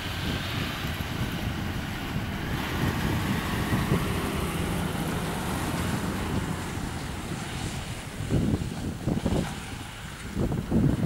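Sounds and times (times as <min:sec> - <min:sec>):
engines running: 0:00.0 - 0:09.2
rushing noise of cutting: 0:00.0 - 0:09.8.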